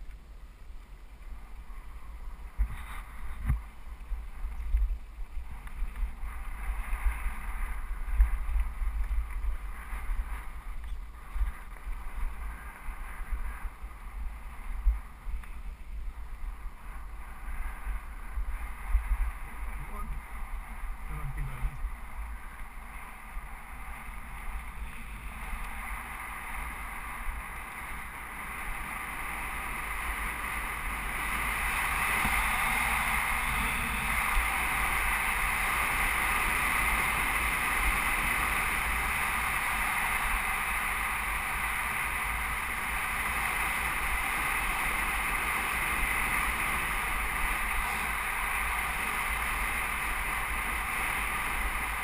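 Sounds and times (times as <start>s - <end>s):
wind rushing over camera: 0.0s - 52.0s.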